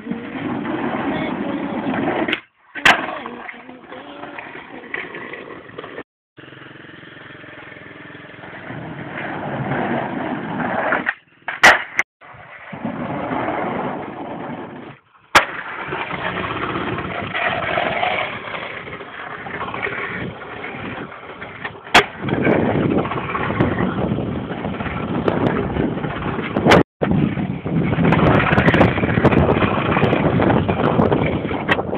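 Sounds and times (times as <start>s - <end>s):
skateboard wheels rolling on asphalt: 0.0s - 31.9s.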